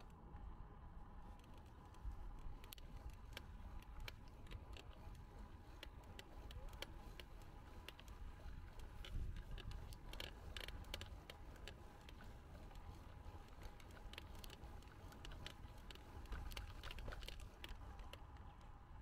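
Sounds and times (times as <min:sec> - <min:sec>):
bicycle tyres rumbling: 0:00.0 - 0:19.0
bike clicking and ticking: 0:00.0 - 0:19.0
wind: 0:00.0 - 0:19.0.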